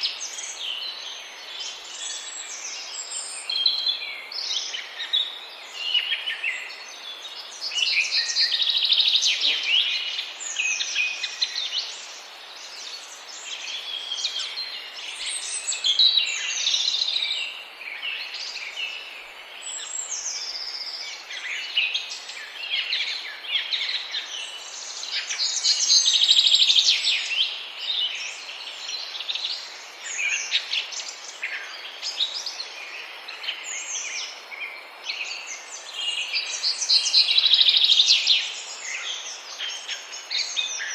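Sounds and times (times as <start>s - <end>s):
faint steady hiss: 0.0s - 40.9s
small birds chirping and singing: 0.0s - 40.9s.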